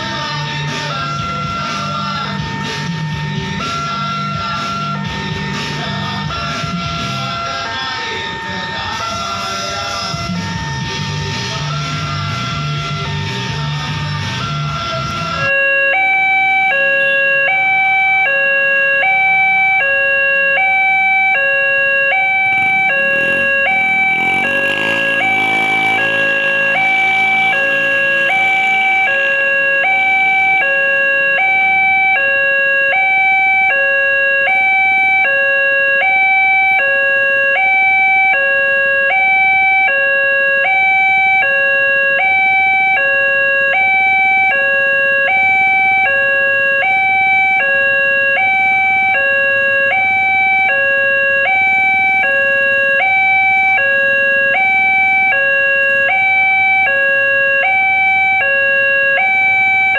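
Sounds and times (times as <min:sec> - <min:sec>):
level-crossing warning alarm: 0:00.0 - 0:59.9.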